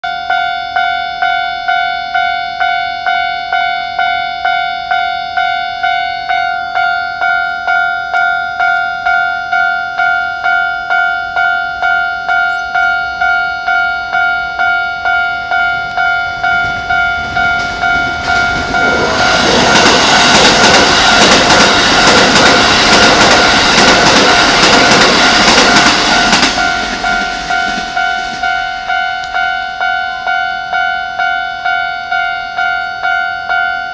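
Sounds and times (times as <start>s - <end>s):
level crossing bell ringing: 0.0s - 33.9s
train passing with wheel clatter: 2.6s - 33.9s.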